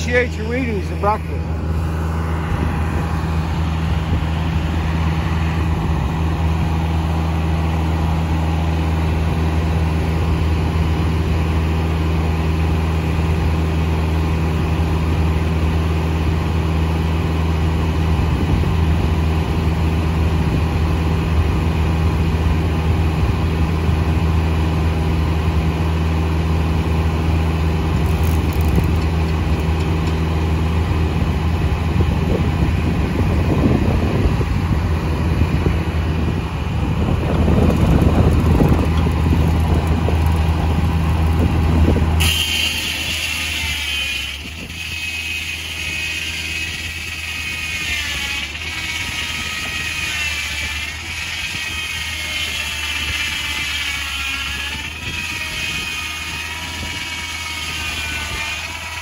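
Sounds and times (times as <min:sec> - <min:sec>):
sawmill engine droning: 0:00.0 - 0:59.0.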